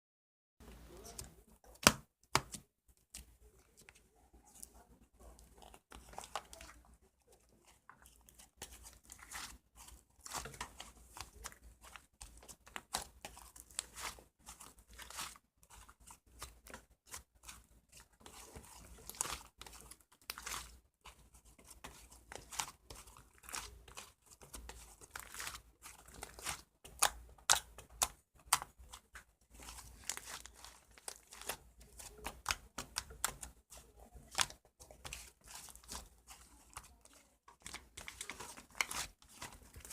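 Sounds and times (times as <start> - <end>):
crinkly material crackling: 2.9 - 39.9.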